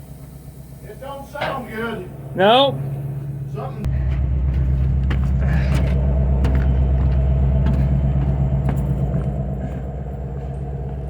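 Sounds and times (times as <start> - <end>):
diesel locomotive engine turning over: 0.0 - 11.0.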